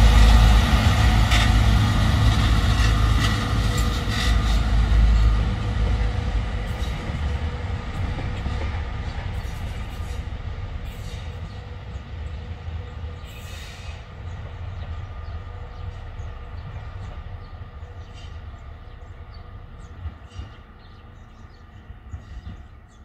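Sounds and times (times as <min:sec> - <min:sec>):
diesel train rumble: 0:00.0 - 0:23.0.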